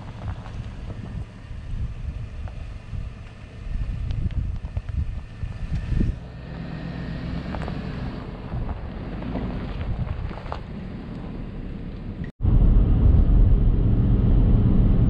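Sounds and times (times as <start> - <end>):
wind buffeting microphone: 0.0 - 6.3, 7.3 - 15.0
car engine humming: 0.0 - 15.0.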